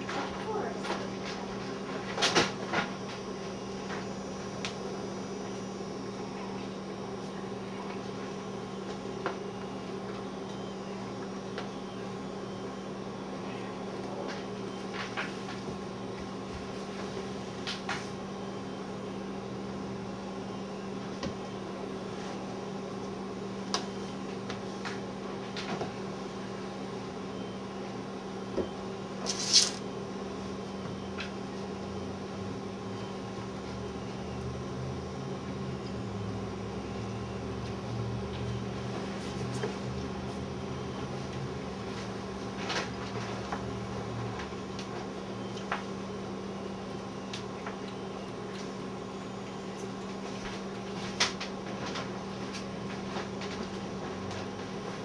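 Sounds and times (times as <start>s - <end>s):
steady electrical hum: 0.0s - 55.0s.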